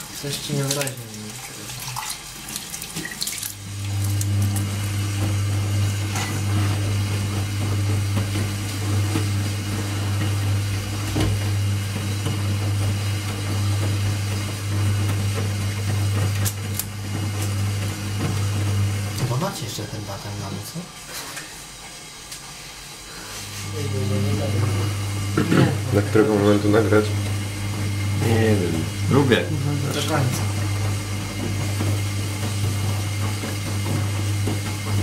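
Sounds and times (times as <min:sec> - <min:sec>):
water rushing through washing machine: 0:00.0 - 0:35.0.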